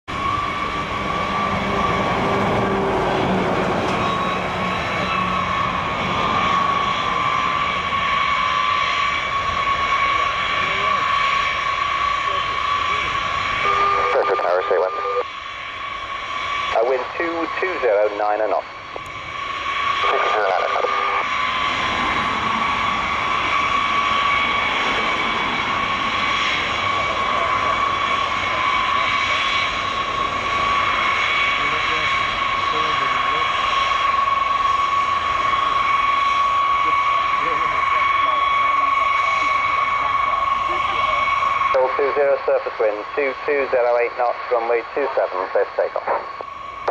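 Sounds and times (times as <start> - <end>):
jet engine turbine whine: 0.0 - 46.9
broad engine rumble: 0.1 - 46.9.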